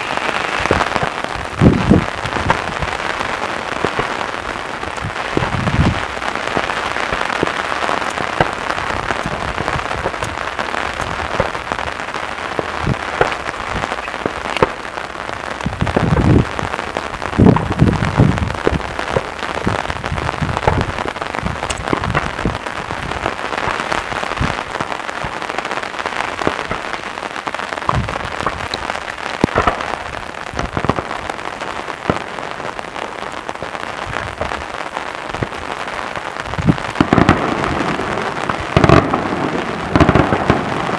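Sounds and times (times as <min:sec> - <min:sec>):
deep fireworks booms: 0:00.0 - 0:40.9
fireworks crackling: 0:00.0 - 0:40.9.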